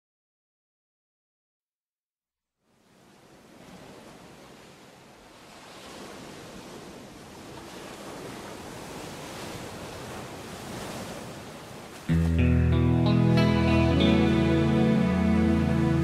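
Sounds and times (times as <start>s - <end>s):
ocean waves: 2.6s - 16.0s.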